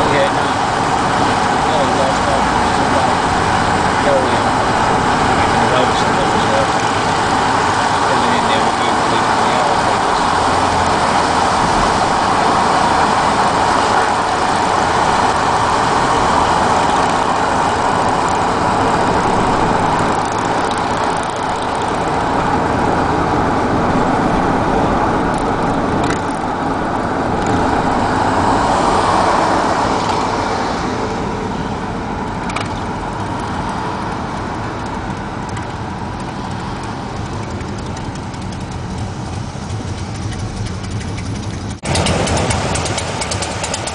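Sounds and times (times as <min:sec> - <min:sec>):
road traffic: 0:00.0 - 0:43.9.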